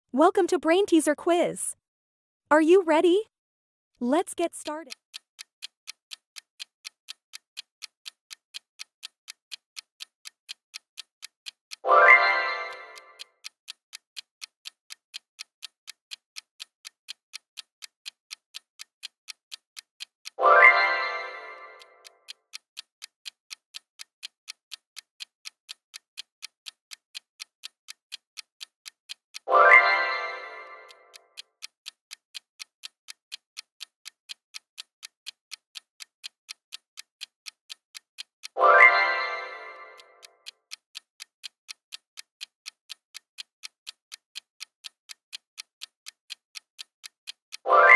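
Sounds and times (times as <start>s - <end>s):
countdown timer ticking: 4.0s - 47.9s.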